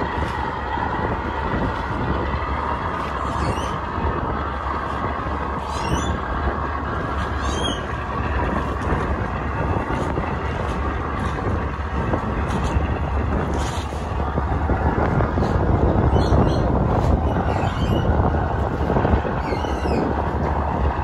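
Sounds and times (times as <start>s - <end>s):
boat engine drone: 0.0s - 21.0s
wind: 0.0s - 21.0s.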